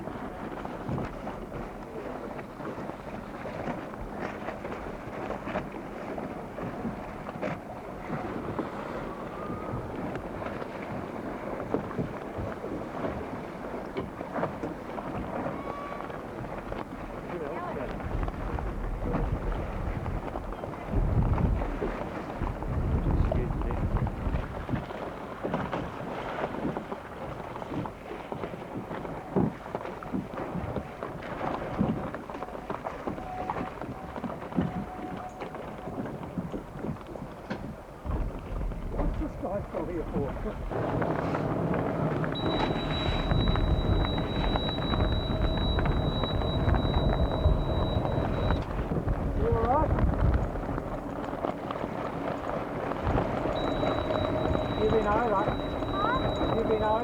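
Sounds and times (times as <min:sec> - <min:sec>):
water rushing along hull: 0:00.0 - 0:57.0
wind buffeting microphone: 0:00.0 - 0:57.0.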